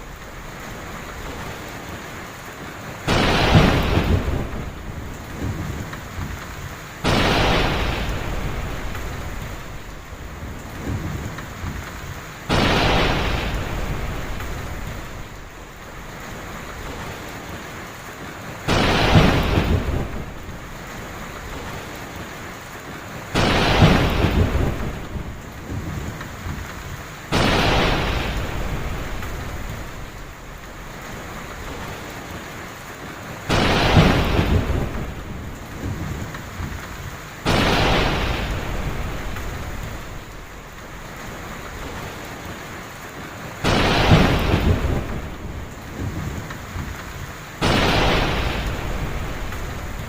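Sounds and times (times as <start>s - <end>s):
thunder claps rumbling: 0.0s - 17.7s, 18.3s - 32.5s, 33.2s - 42.6s, 43.2s - 50.0s
heavy rain falling: 0.0s - 50.0s.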